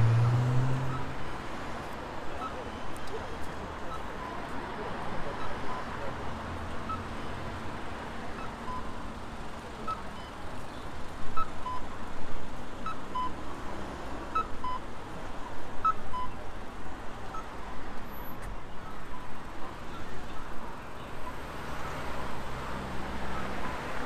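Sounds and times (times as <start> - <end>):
street noise: 0.0 - 24.0.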